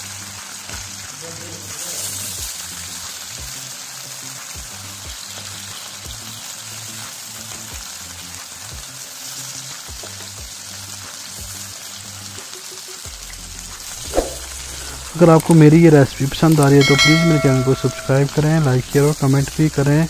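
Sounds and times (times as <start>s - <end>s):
chicken sizzling in hot oil: 0.0s - 20.0s
background music with steady beat: 2.4s - 20.0s.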